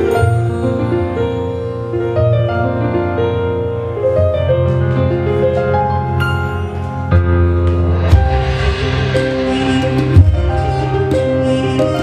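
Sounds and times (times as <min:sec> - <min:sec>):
bass-heavy instrumental music: 0:00.0 - 0:12.0.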